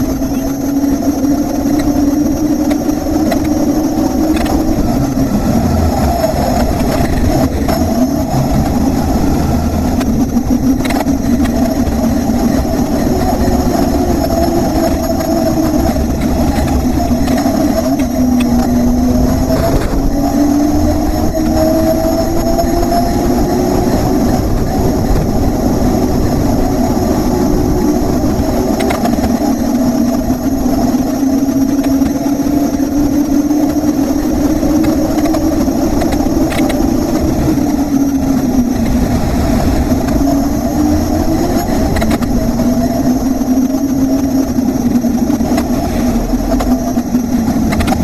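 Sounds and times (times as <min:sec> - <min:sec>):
low wavering hum: 0:00.0 - 0:48.0
wind rumbling on microphone: 0:00.0 - 0:48.0.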